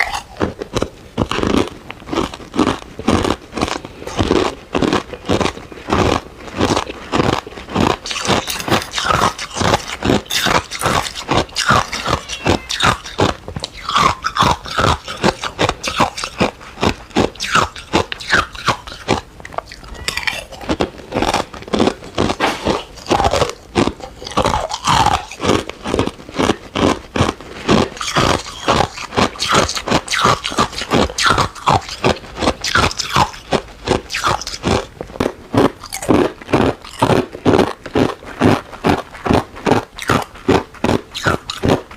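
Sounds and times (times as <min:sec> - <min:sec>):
ice being crunched and chewed: 0:00.0 - 0:41.9.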